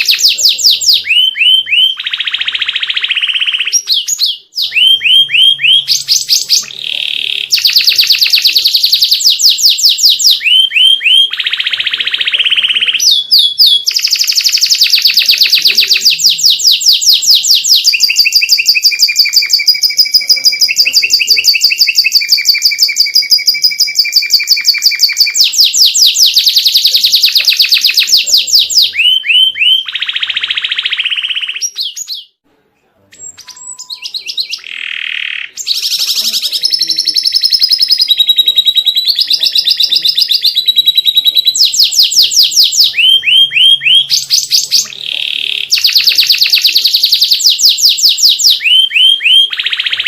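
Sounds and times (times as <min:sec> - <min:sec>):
canary singing trills: 0:00.0 - 0:32.4, 0:33.1 - 0:50.0.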